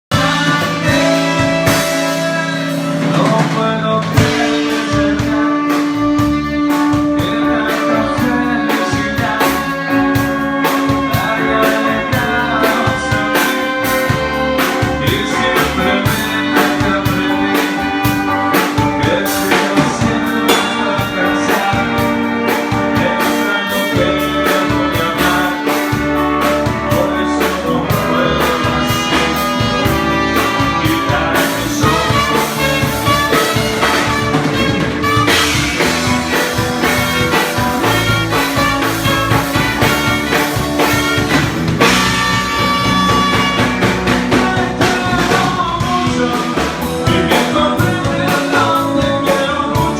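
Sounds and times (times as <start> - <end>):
drum kit beat: 0.0 - 49.9
live band playing: 0.0 - 49.9.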